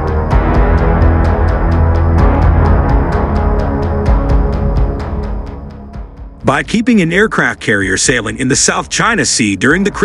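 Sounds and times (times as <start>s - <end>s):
dramatic background music: 0.0s - 10.0s.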